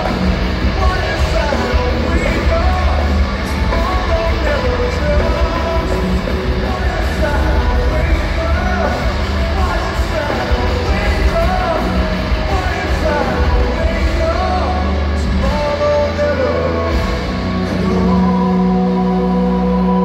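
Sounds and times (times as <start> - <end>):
live rock band playing: 0.0 - 20.0
man singing: 0.0 - 20.0.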